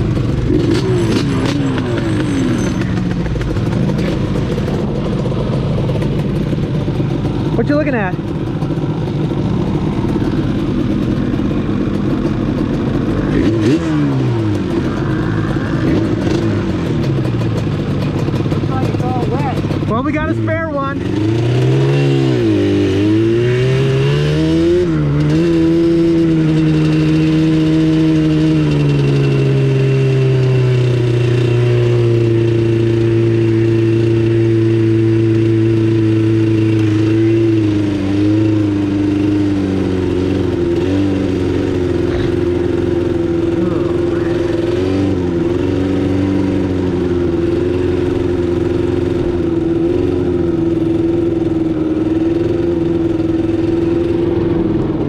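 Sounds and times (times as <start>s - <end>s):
atv engine accelerating: 0.0s - 55.0s.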